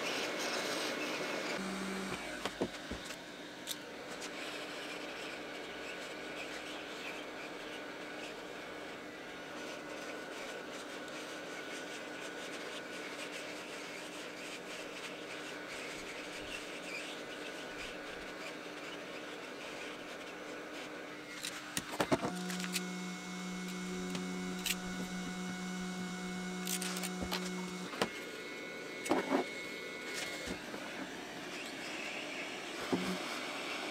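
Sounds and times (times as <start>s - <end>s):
electric motor hum: 0.9s - 33.9s.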